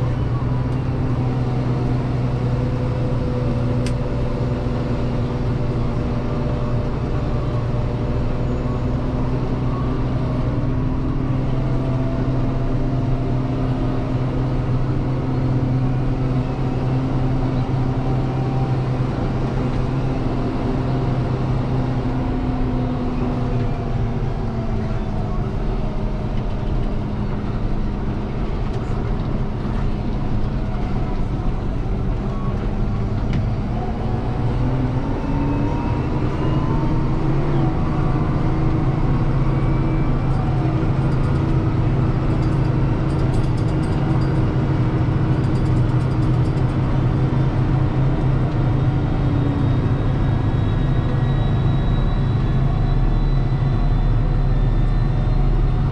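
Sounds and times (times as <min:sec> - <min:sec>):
tractor diesel engine drone: 0:00.0 - 0:55.9.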